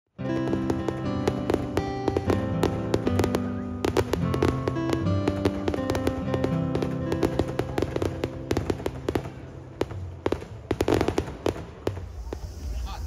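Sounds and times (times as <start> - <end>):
fireworks bursting and crackling: 0.2 - 13.0
music playing: 0.2 - 13.0.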